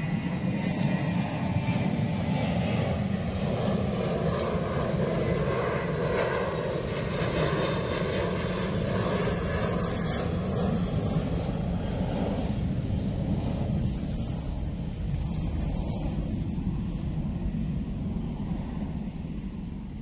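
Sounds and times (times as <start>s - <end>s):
steady engine drone: 0.0s - 20.0s.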